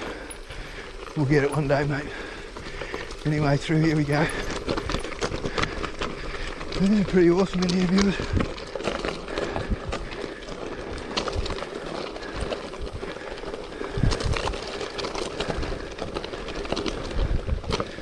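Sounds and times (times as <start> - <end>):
tyres crunching on gravel: 0.0 - 18.0.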